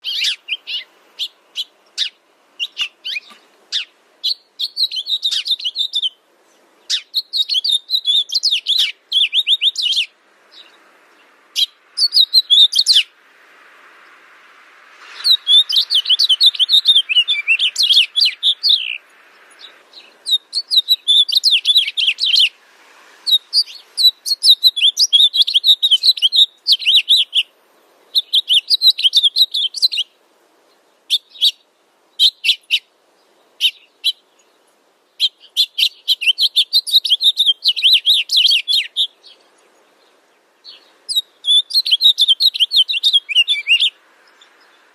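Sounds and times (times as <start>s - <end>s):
songbird chirping and twittering: 0.0s - 44.9s.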